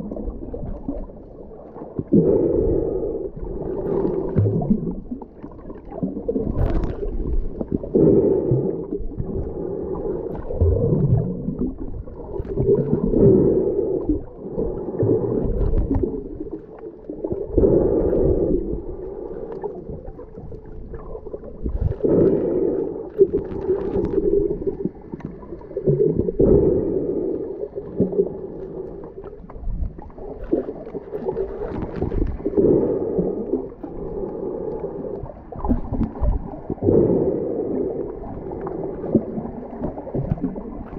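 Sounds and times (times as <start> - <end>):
muffled underwater water sloshing: 0.0 - 40.9.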